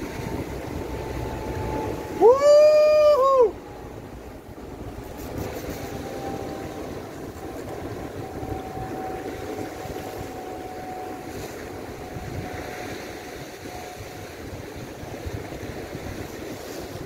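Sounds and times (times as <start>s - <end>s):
sea wash: 0.0s - 17.0s
wind on microphone: 0.0s - 17.0s.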